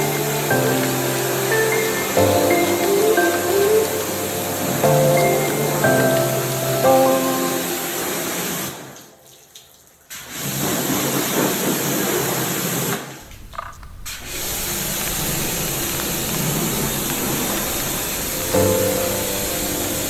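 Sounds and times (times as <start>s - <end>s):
water spraying hiss: 0.0s - 9.2s, 10.1s - 20.0s.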